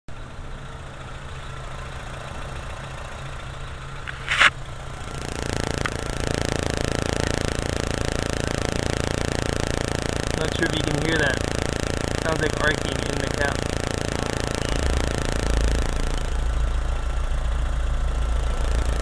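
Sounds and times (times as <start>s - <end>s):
car engine running: 0.2s - 19.0s.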